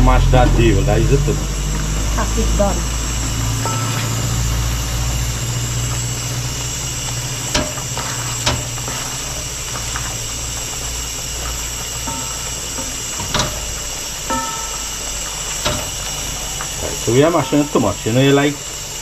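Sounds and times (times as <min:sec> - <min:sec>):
steady hiss with low hum: 0:00.0 - 0:19.0.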